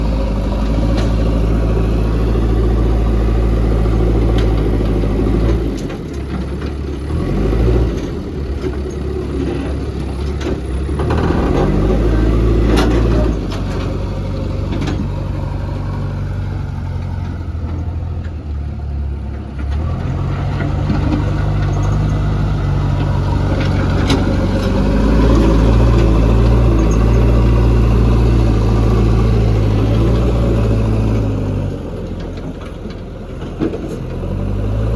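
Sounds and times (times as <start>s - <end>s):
diesel engine running under load: 0.0s - 34.9s.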